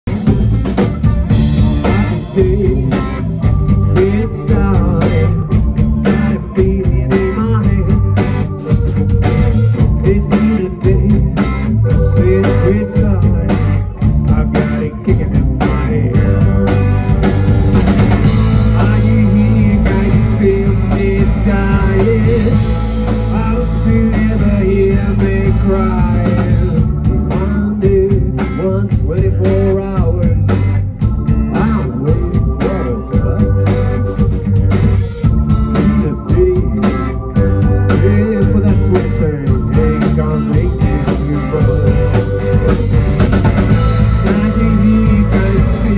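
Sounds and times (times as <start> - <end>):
rock band playing: 0.0 - 45.9
lead vocal singing: 1.6 - 16.8, 18.2 - 33.9, 35.5 - 42.9, 43.6 - 45.9.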